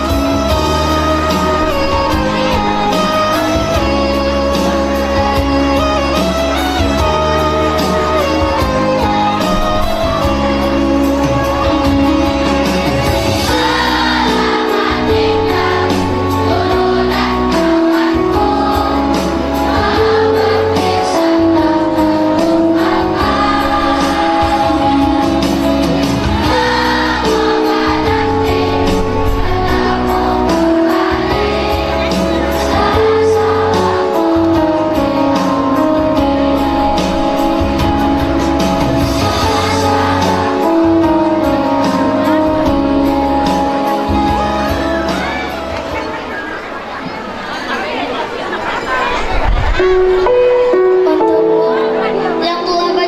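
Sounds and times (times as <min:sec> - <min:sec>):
instrumental backing music: 0:00.0 - 0:47.9, 0:49.5 - 0:53.0
children's choir singing: 0:00.0 - 0:53.0.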